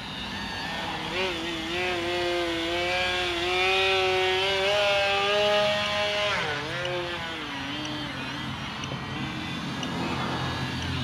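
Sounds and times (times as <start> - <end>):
model plane motor buzzing: 0.0 - 11.0.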